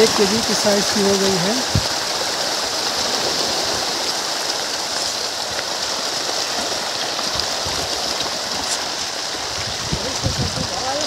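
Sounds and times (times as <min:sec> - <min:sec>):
fish splashing at the surface: 0:00.0 - 0:11.0.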